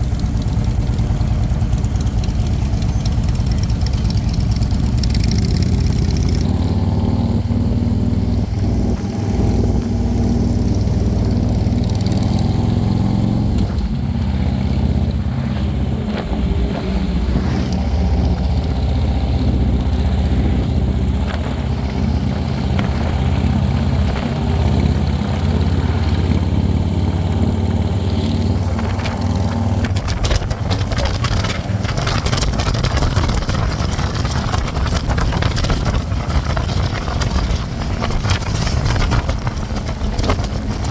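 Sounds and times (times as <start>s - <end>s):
motorcycle engine running: 0.0s - 40.9s
wind noise on microphone: 3.7s - 40.9s.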